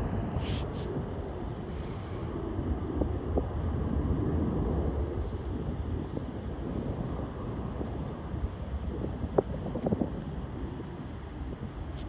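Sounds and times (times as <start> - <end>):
jet engines rumbling: 0.0 - 12.0
wind on microphone: 0.0 - 12.0.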